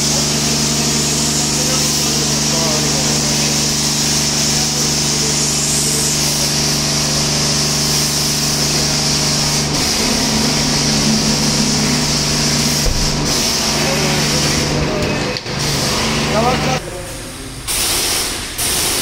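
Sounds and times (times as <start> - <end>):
pressure washer humming: 0.0 - 19.0
foam spray hissing: 0.1 - 14.8, 17.7 - 19.0.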